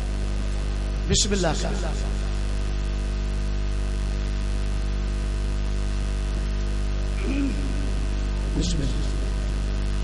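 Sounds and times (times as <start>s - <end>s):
electrical mains hum: 0.0s - 10.0s
sound system hiss: 0.0s - 10.0s.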